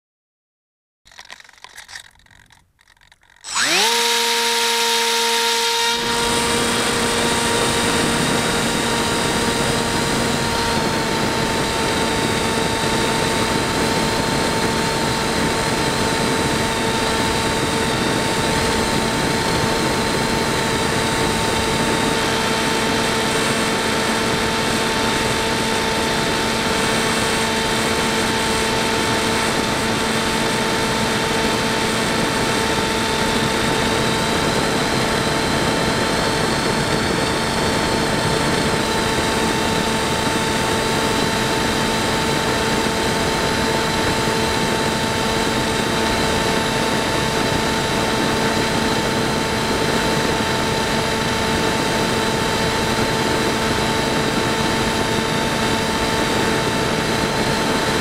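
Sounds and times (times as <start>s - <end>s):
electric motor high whine: 1.1s - 58.0s
wind noise: 6.0s - 58.0s.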